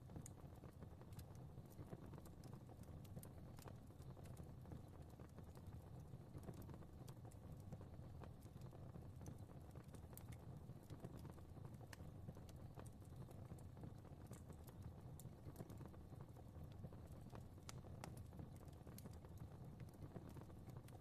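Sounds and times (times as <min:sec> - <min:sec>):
fire crackling and popping: 0:00.0 - 0:21.0
low rumble of flame: 0:00.0 - 0:21.0.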